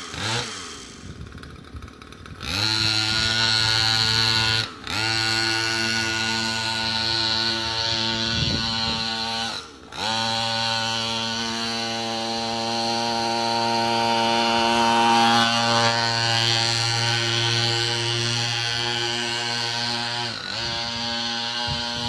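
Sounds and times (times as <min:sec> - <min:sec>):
mini bike engine buzzing: 0:00.0 - 0:22.0.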